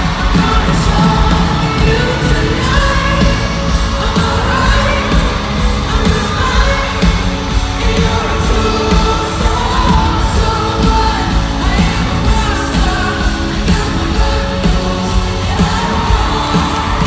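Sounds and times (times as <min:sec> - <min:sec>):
live rock band playing: 0:00.0 - 0:17.0
woman singing: 0:00.0 - 0:17.0.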